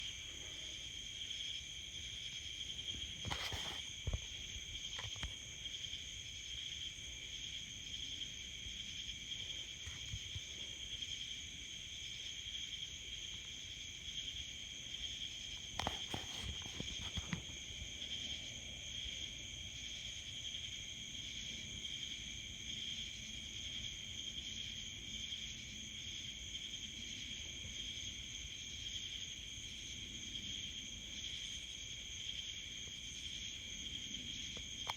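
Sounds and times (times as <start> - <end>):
insects chorus: 0.0 - 34.9.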